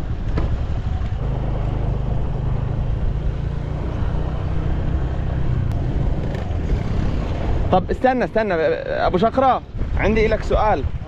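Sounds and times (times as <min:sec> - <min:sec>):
vehicle engine humming: 0:00.0 - 0:10.0
road noise: 0:00.0 - 0:11.0.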